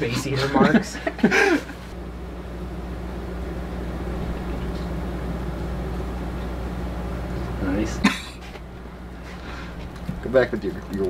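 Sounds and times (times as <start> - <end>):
heater fan rushing: 0.0 - 11.0
space heater hum: 0.0 - 11.0.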